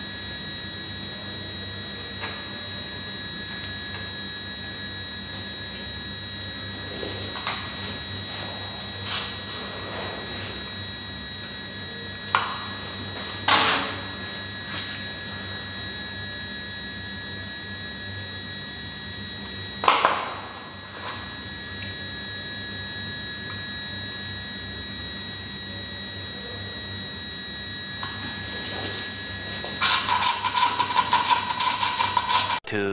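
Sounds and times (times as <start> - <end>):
steady workshop hum: 0.0 - 32.9.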